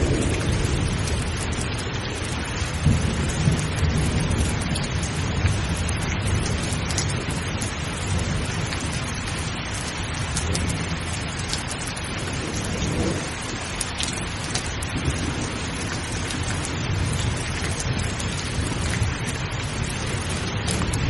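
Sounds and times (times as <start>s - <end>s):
close raindrops ticking: 0.0s - 21.0s
heavy rain: 0.0s - 21.0s
rolling thunder rumble: 0.0s - 21.0s.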